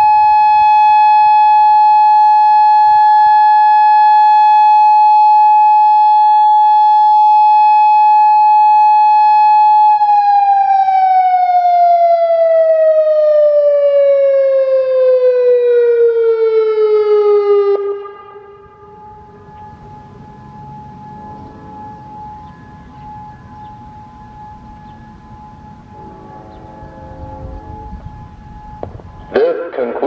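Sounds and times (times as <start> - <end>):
warning siren tone: 0.0 - 29.5.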